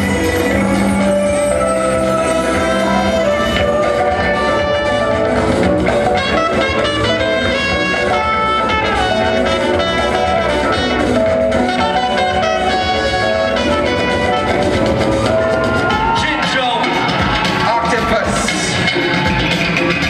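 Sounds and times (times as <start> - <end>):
instrumental break-beat music: 0.0 - 20.0.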